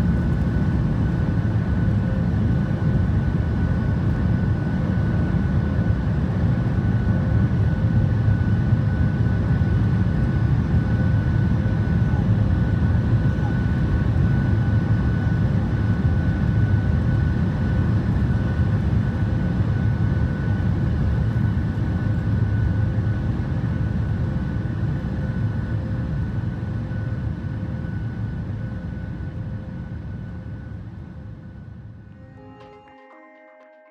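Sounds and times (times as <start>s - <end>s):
jet engine rumble with whines: 0.0s - 32.3s.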